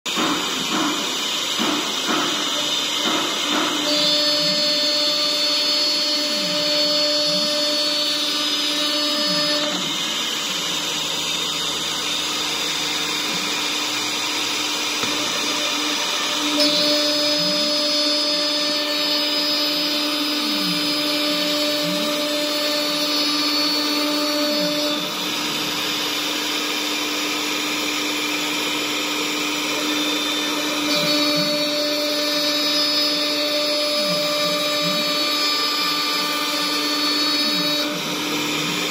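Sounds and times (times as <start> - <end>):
router spindle whine: 0.1 - 38.9.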